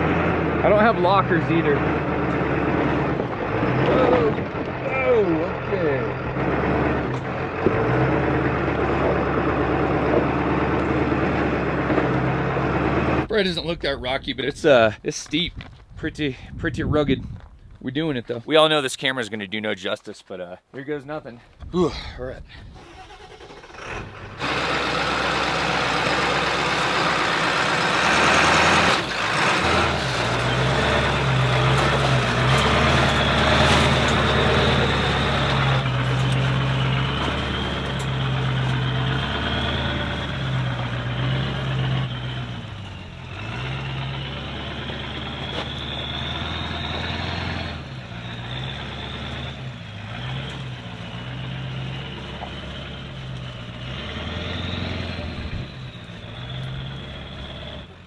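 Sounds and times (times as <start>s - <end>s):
diesel engine working under load: 0.0s - 13.3s, 22.7s - 58.0s.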